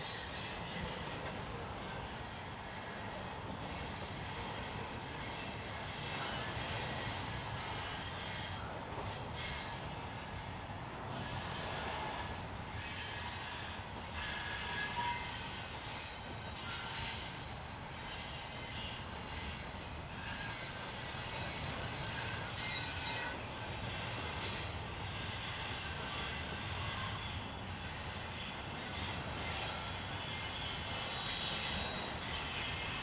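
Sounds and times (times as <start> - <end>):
steel wheels squealing: 0.0 - 33.0
train rumbling past: 0.0 - 33.0.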